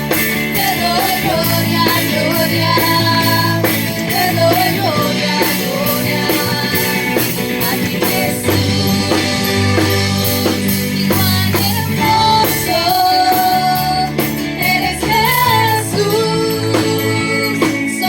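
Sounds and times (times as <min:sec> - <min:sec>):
bass: 0:00.0 - 0:18.0
steady drum beat: 0:00.0 - 0:18.0.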